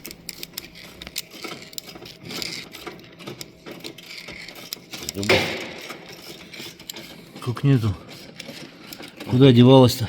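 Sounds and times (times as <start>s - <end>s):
small metal parts clicking: 0.0s - 9.6s.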